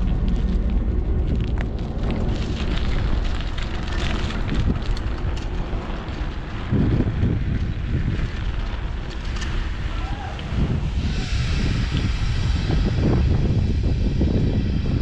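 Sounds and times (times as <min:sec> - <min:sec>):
faint engine drone: 0:00.0 - 0:15.0
train rumbling past: 0:00.0 - 0:15.0.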